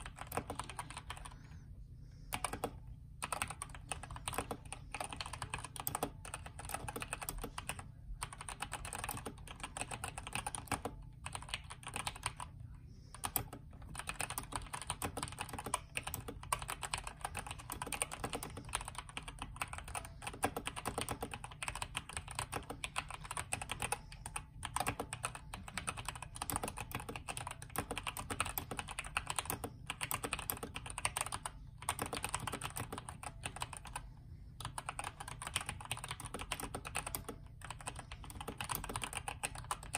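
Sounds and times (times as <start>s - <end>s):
fast typing on mechanical keyboard: 0.0s - 1.5s, 2.3s - 39.9s.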